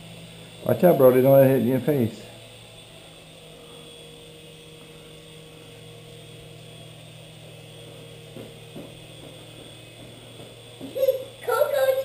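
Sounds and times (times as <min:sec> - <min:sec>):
toy helicopter whirring: 0:00.0 - 0:12.0.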